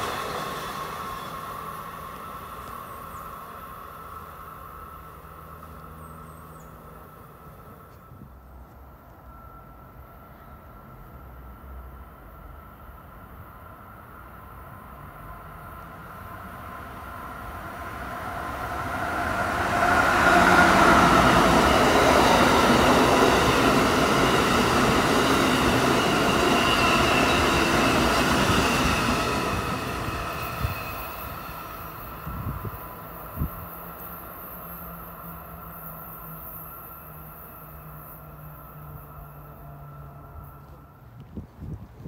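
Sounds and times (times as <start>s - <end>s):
train passing at speed: 0.0s - 42.0s.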